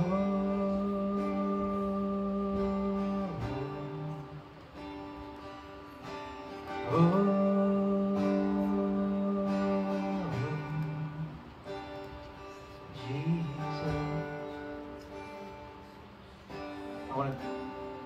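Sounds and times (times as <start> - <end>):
soft acoustic guitar: 0.0 - 18.0.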